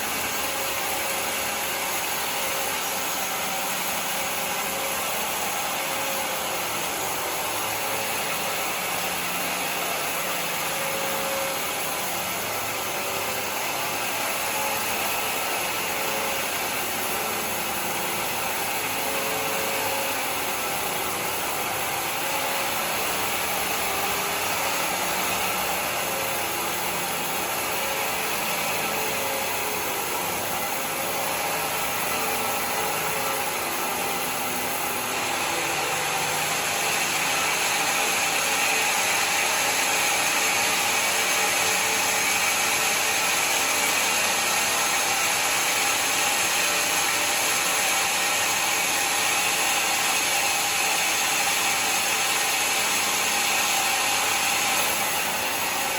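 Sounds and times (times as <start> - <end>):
sawmill sawing wood: 0.0 - 55.9.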